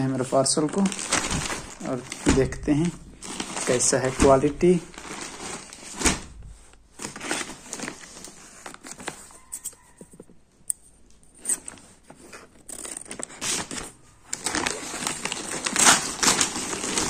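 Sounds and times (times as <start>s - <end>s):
paper crinkling and tearing: 0.0s - 9.6s, 11.4s - 17.0s.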